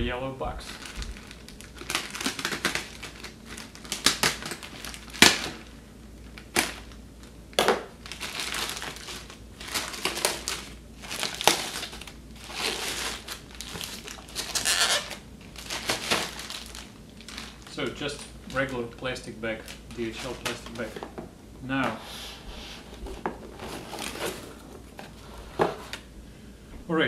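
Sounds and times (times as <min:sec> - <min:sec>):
plastic mailer crinkling and tearing: 0:00.6 - 0:21.1, 0:23.2 - 0:26.0.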